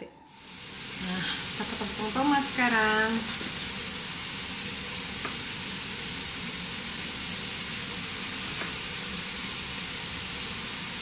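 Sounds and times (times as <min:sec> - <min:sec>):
pot sizzling on stove: 0:00.3 - 0:11.0.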